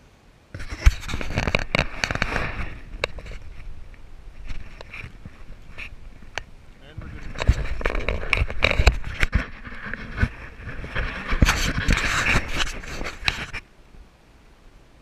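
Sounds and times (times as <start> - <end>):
camera handling noise: 0.6 - 6.5, 7.2 - 13.6.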